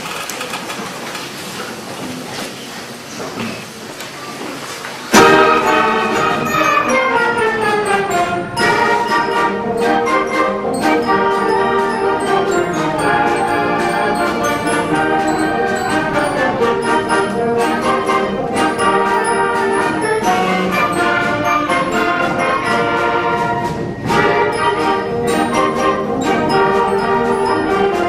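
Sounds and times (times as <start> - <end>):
wind band playing: 5.1 - 28.0.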